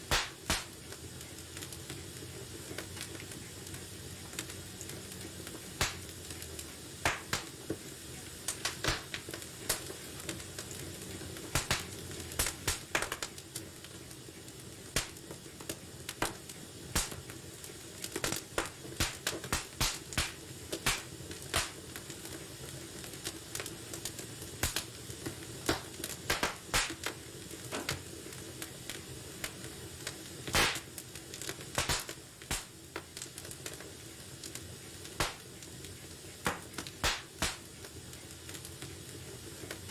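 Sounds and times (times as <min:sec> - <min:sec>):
hiss of flames: 0:00.0 - 0:39.9
logs crackling and popping: 0:00.0 - 0:39.9.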